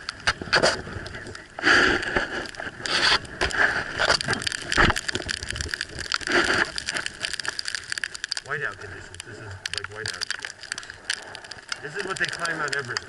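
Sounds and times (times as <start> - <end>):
sleet ticking on camera: 0.0 - 13.0.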